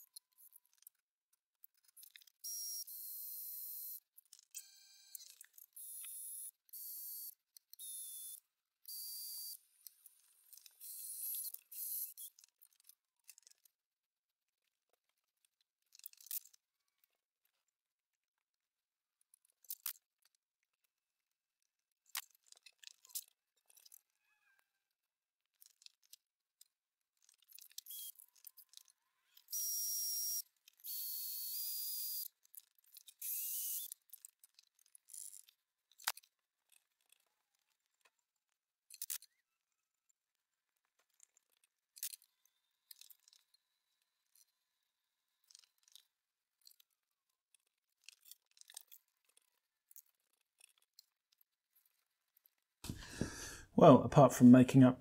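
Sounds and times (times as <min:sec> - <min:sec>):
small metal parts and tools clinking: 0:00.0 - 0:13.9, 0:14.9 - 0:17.7, 0:21.7 - 0:24.5, 0:25.4 - 0:39.4, 0:40.8 - 0:52.6.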